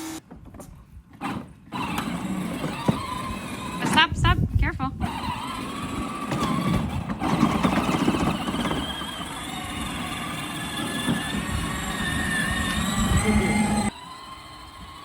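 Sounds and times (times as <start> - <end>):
electric motors whining: 1.2 - 15.0.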